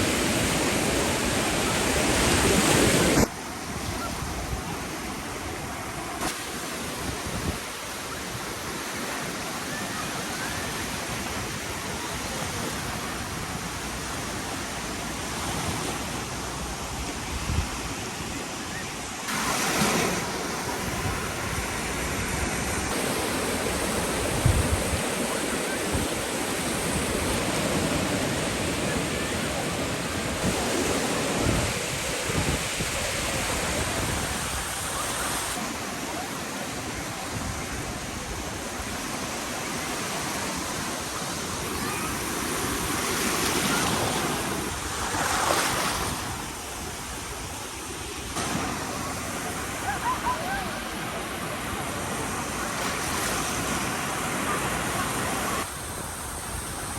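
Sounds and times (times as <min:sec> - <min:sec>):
surf washing on a beach: 0:00.0 - 0:56.9.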